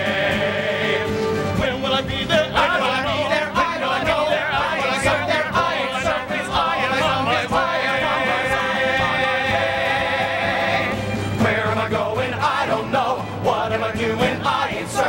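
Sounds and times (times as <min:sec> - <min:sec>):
chorus singing with vibrato: 0:00.0 - 0:15.0.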